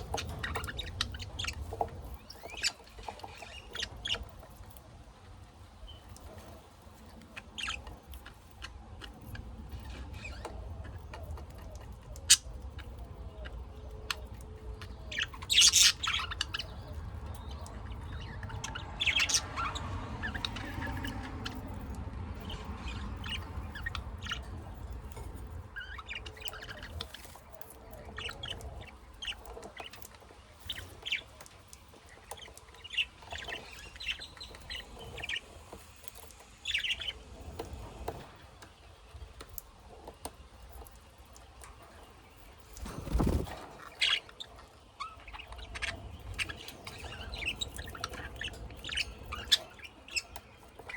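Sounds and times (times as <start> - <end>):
birds chirping and squawking: 0.0 - 50.9.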